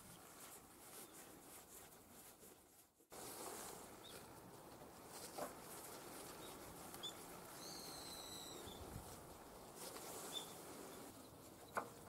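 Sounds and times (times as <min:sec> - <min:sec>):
faint outdoor ambience: 0:00.0 - 0:12.0.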